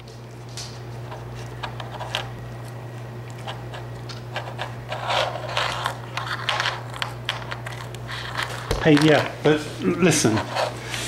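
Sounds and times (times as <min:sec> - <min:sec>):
cookie scraping on wooden floor: 0:00.6 - 0:02.4, 0:03.3 - 0:11.0.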